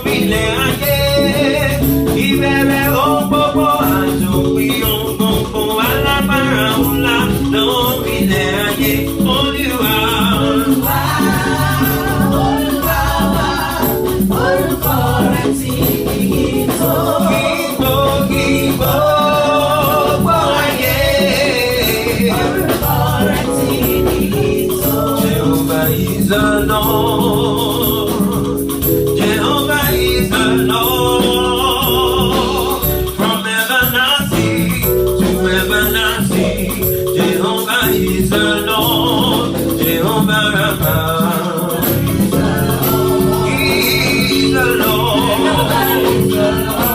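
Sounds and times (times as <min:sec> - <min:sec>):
instrumental accompaniment: 0:00.0 - 0:46.9
light percussion beat: 0:00.0 - 0:46.9
voices singing gospel song: 0:00.0 - 0:46.9.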